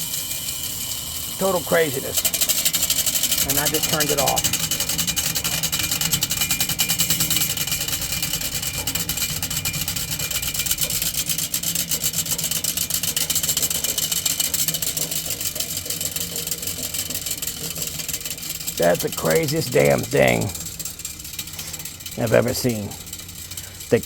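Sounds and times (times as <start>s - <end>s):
fan rim clicking rattle: 0.0s - 24.0s.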